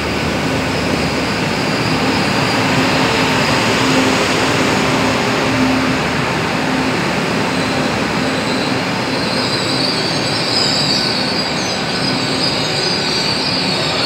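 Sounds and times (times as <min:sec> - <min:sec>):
train wheels rumbling on rail: 0:00.0 - 0:14.0
high squeal: 0:00.8 - 0:14.0.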